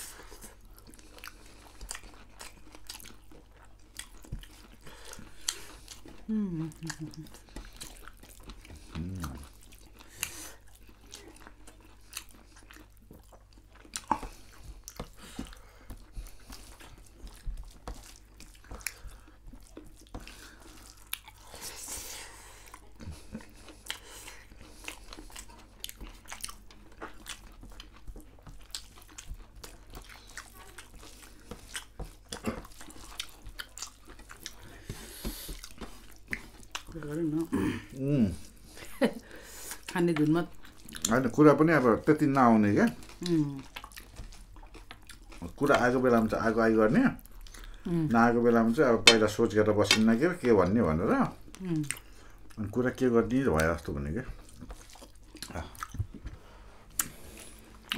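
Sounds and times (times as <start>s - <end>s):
people chewing and smacking: 0.0s - 57.9s.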